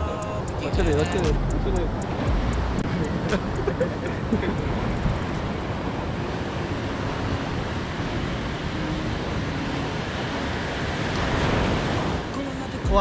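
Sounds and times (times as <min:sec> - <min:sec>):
ocean surf on sandy beach: 0:00.0 - 0:01.4, 0:02.0 - 0:13.0
wind rumbling on microphone: 0:00.0 - 0:12.4.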